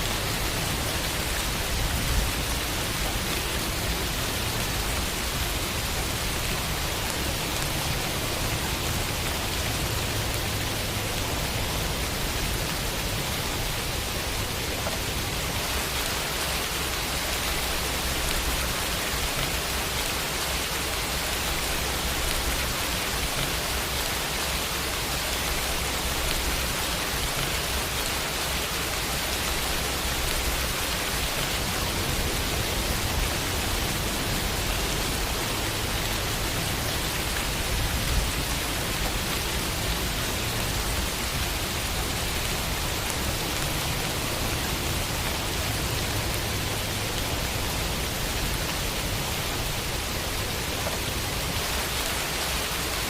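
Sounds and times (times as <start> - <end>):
rain on a window: 0.0 - 53.0.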